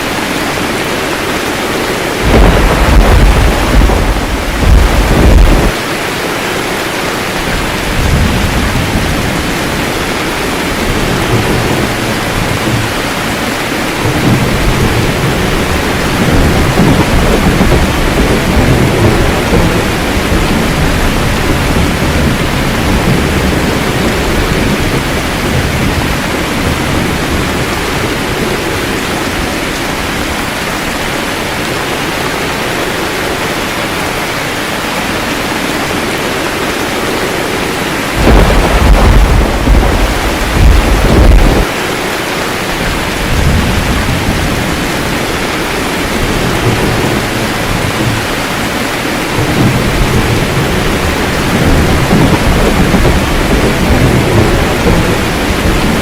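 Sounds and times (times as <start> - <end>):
heavy rain: 0.0 - 56.0
thunder rumbling: 0.0 - 56.0
loud thunderclap: 1.7 - 5.8, 7.5 - 29.4, 36.0 - 56.0.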